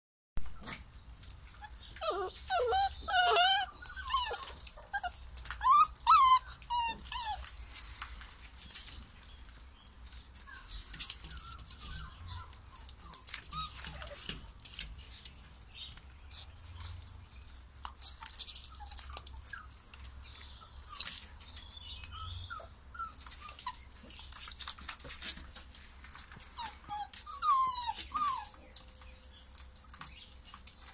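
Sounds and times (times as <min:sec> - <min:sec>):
puppies whimpering and yipping: 0:01.4 - 0:15.2, 0:16.3 - 0:30.9.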